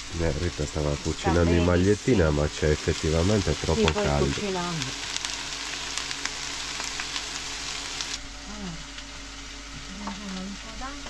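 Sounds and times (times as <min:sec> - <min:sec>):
food frying in oil: 0:00.0 - 0:11.0.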